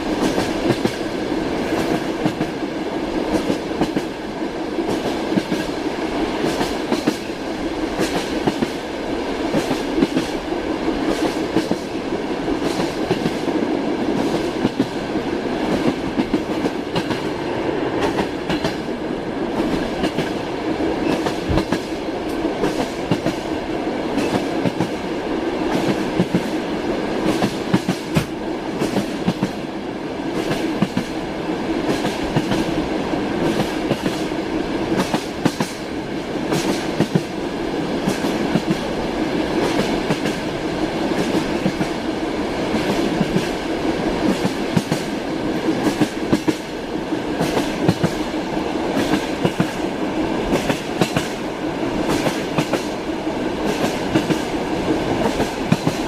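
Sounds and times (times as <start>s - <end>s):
train wheels clattering over rails: 0.0s - 29.6s, 30.2s - 31.2s, 31.8s - 56.0s.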